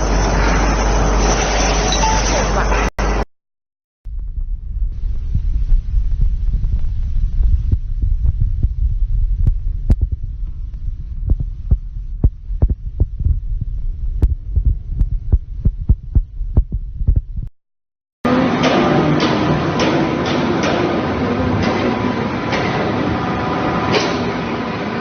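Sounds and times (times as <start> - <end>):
low mechanical rumble: 0.0 - 3.3, 4.0 - 17.6, 18.3 - 25.0.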